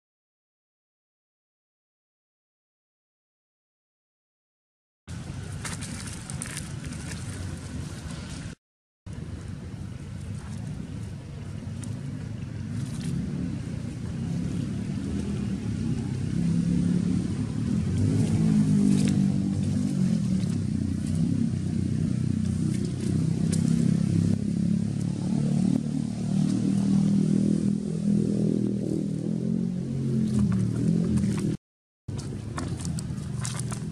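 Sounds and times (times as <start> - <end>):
low engine rumble: 5.1 - 33.9.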